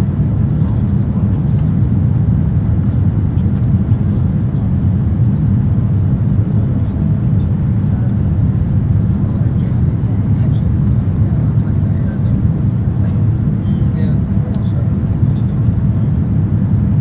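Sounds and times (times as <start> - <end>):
airplane cabin rumble: 0.0 - 17.0.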